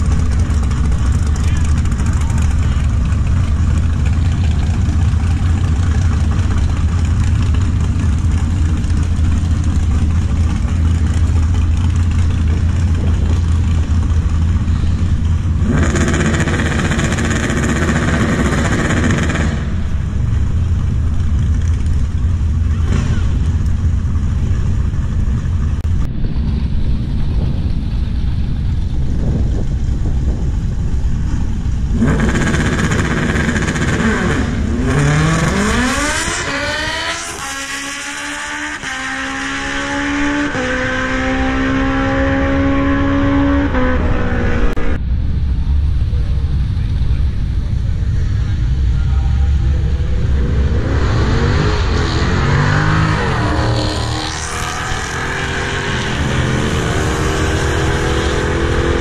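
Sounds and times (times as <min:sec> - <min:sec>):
drag race car engines: 0:00.0 - 0:59.0.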